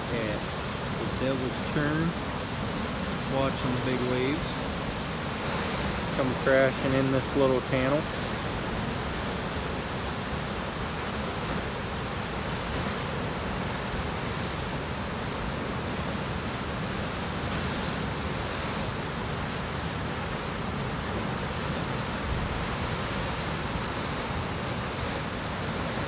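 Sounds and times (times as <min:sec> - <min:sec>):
ocean surf breaking on rocks: 0:00.0 - 0:26.0.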